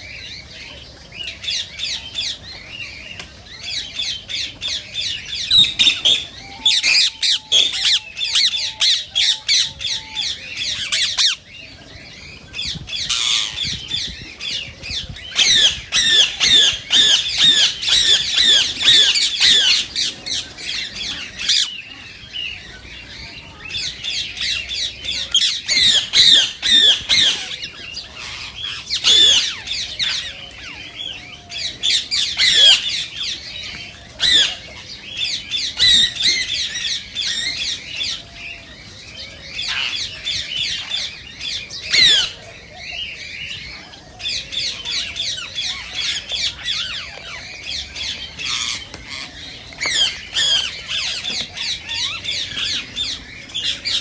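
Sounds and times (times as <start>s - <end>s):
parakeets squawking: 5.1s - 38.2s, 39.6s - 42.4s, 44.4s - 54.0s.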